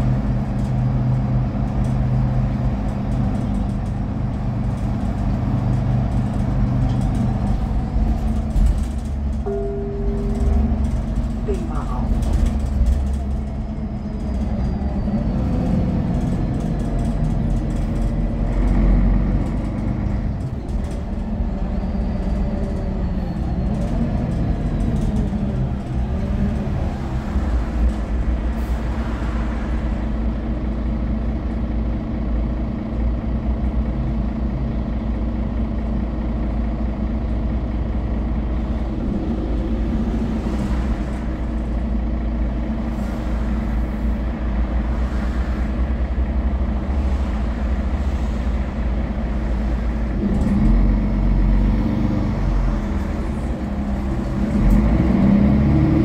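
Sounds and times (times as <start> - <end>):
bus diesel engine drone: 0.0 - 56.0
road noise: 0.0 - 56.0.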